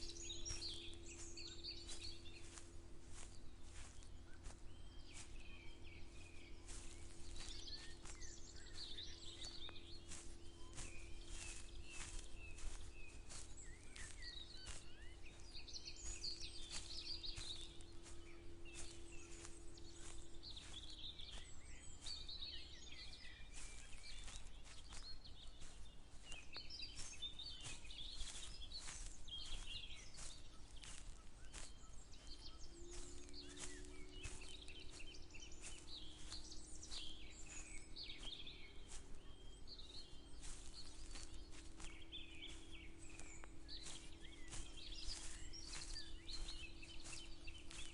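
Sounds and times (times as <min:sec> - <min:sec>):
crunching footsteps: 0:00.0 - 0:47.9
songbirds chirping and singing: 0:00.0 - 0:47.9.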